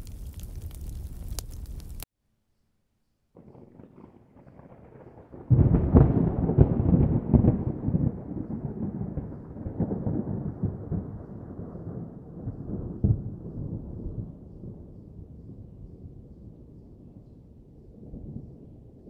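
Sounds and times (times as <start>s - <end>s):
thunder cracking and rumbling: 0.0s - 2.0s, 3.4s - 19.0s.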